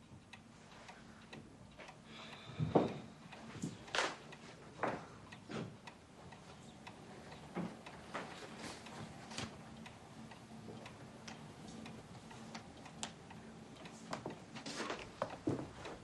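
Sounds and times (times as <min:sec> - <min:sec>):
faint ticks and clicks: 0:00.0 - 0:16.0.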